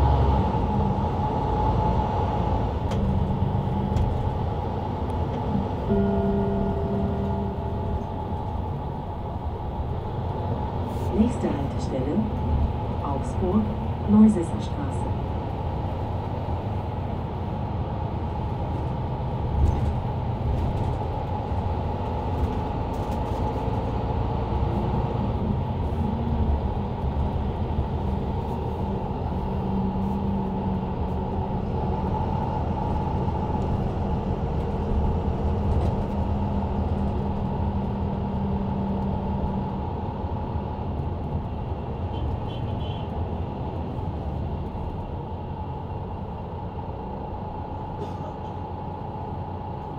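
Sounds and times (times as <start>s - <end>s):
bus diesel engine drone: 0.0s - 49.9s
road noise: 0.0s - 49.9s.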